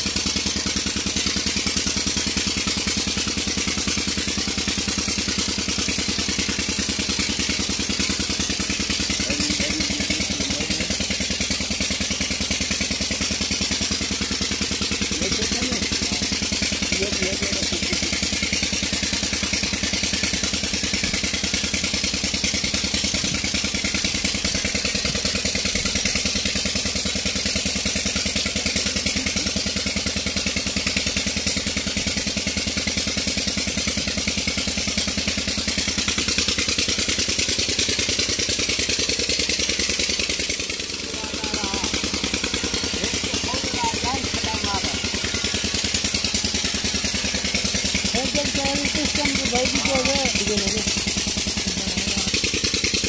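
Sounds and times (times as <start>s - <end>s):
stationary diesel engine running: 0.0s - 53.0s.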